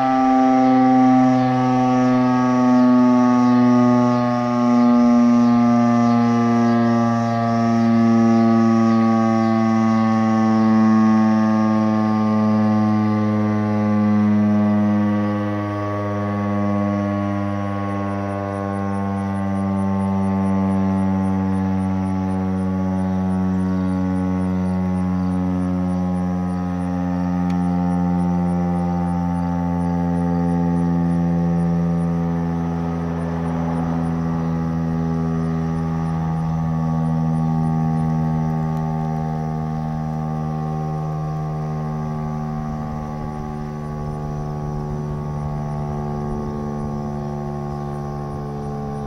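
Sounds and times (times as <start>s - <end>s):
warning siren winding down: 0.0s - 49.0s.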